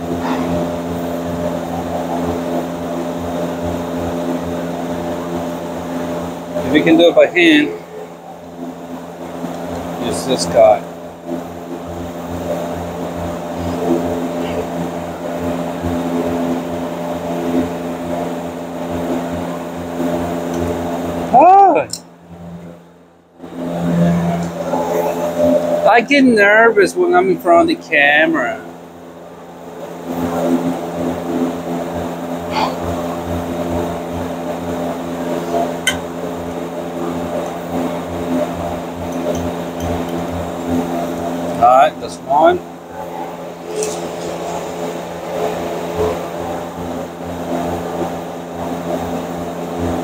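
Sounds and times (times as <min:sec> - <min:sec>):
mechanical drone: 0:00.0 - 0:50.0
motor humming: 0:00.0 - 0:50.0.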